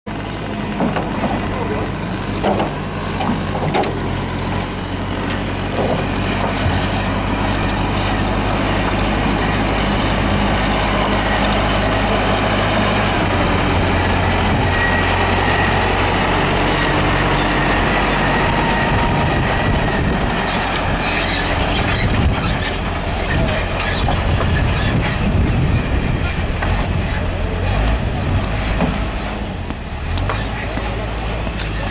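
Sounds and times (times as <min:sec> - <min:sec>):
diesel engine running steadily: 0:00.1 - 0:31.9.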